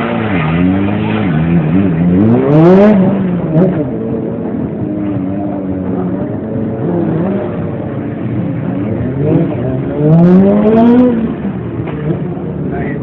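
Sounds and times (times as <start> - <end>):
motorcycle engine revving: 0.0 - 12.7.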